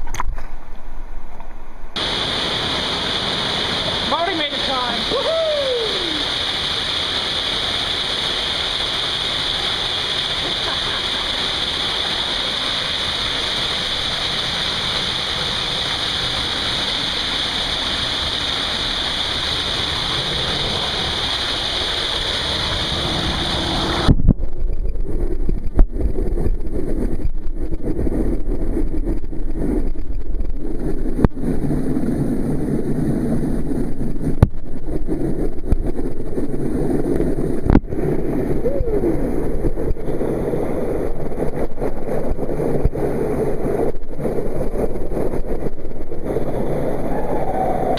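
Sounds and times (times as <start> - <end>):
muffled low water churning: 0.0 - 47.9
water rushing down cascade: 2.0 - 47.9.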